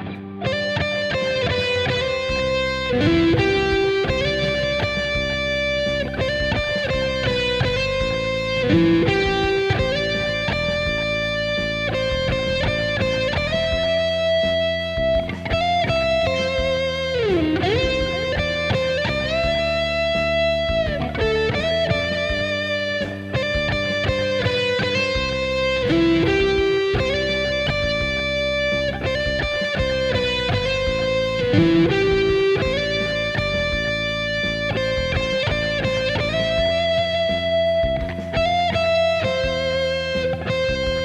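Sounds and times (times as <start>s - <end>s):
electric guitar melody: 0.0s - 41.0s
plucked acoustic guitar: 0.0s - 41.0s.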